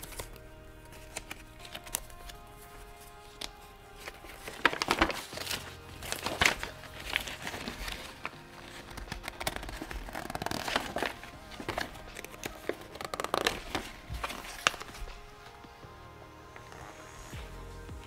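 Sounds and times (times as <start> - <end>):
paper rustling and crinkling: 0.0 - 15.8.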